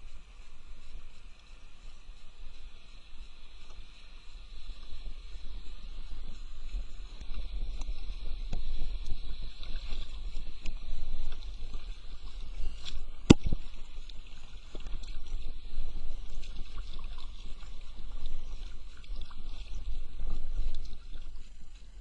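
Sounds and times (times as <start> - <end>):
water lapping against hull: 0.0 - 22.0.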